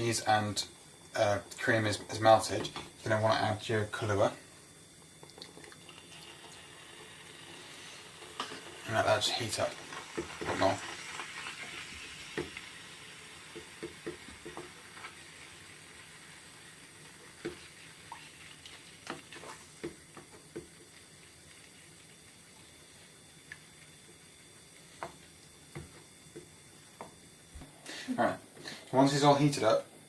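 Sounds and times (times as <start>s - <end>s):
mixture sizzling in a pan: 0.0s - 29.8s.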